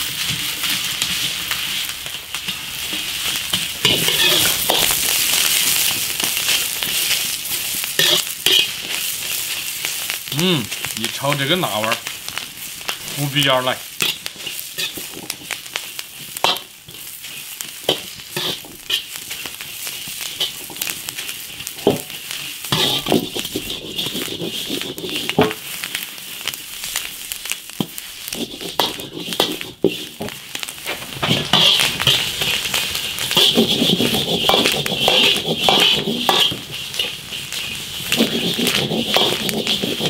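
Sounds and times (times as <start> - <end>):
peppers sizzling in a wok: 0.0 - 40.0
spatula scraping a pan: 0.2 - 9.8, 14.0 - 26.0, 27.8 - 40.0.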